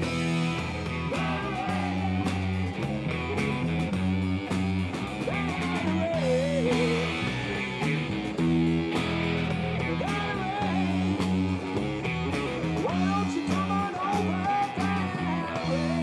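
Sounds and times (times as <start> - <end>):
drums: 0.0 - 16.0
electric guitar chords: 0.0 - 16.0.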